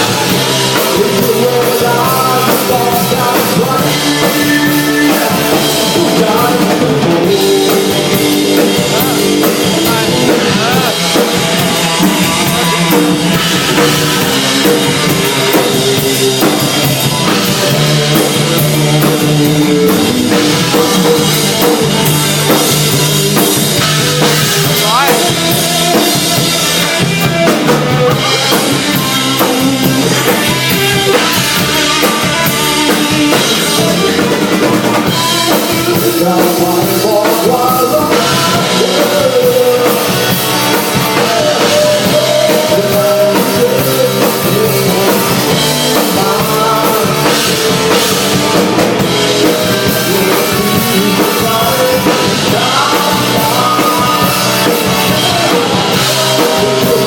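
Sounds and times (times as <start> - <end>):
bass guitar: 0.0 - 57.0
drum kit: 0.0 - 57.0
electric guitar: 0.0 - 57.0
person singing: 0.0 - 57.0.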